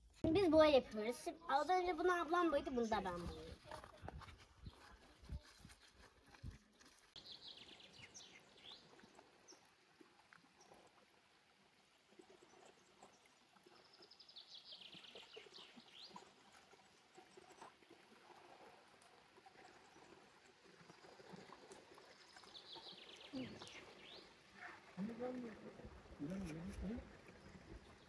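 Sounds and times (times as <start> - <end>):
stream running over rocks: 0.4 - 28.0.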